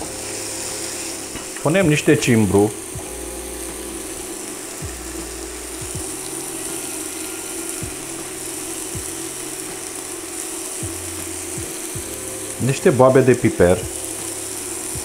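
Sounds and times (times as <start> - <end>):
buzzing hum: 0.0 - 15.0
vegetables sizzling in a pot: 0.0 - 15.0.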